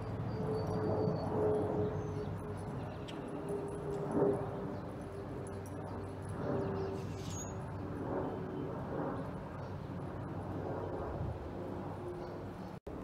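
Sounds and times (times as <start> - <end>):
jet airliner engine rumble: 0.0 - 13.0.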